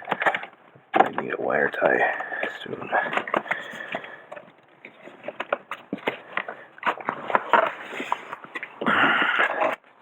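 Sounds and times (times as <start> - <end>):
wiring and plastic trim rustling: 0.0 - 10.0.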